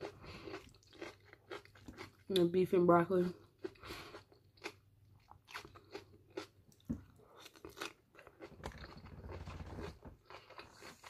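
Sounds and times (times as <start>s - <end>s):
person chewing food: 0.0s - 2.5s, 3.4s - 11.0s.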